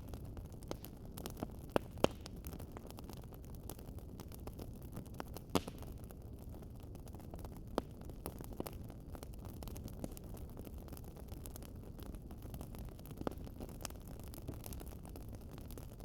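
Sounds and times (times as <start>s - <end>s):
fire pops: 0.0s - 16.0s
wood fire crackling: 0.0s - 16.0s.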